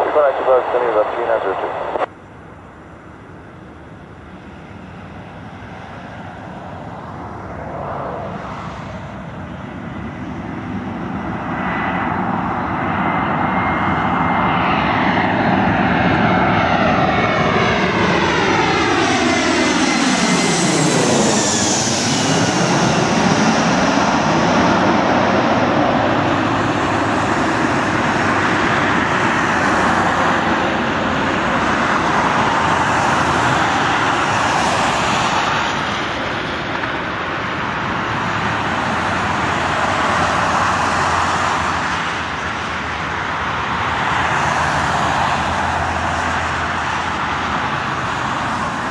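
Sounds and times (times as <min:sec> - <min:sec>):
jet engines passing overhead: 0:00.0 - 0:48.9.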